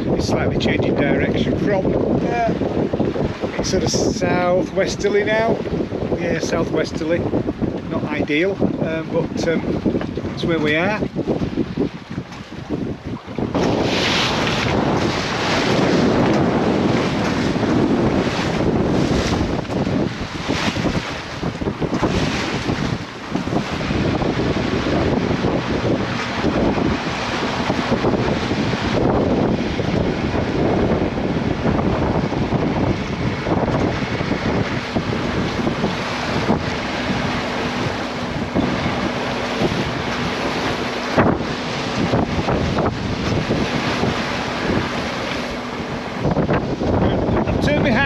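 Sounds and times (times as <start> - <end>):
water rushing along hull: 0.0 - 48.0
wind buffeting microphone: 0.0 - 48.0.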